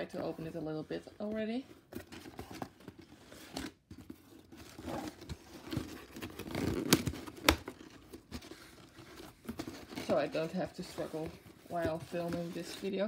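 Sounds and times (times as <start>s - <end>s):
cardboard flaps tearing and rustling: 2.0s - 13.0s.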